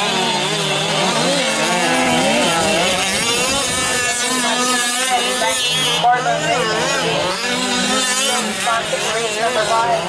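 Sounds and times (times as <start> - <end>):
small two-stroke engines running: 0.0 - 10.0.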